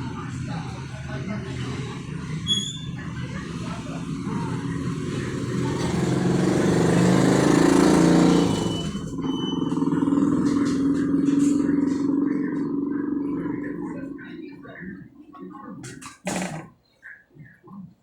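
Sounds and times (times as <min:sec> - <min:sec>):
vehicle engine running: 0:00.0 - 0:15.1.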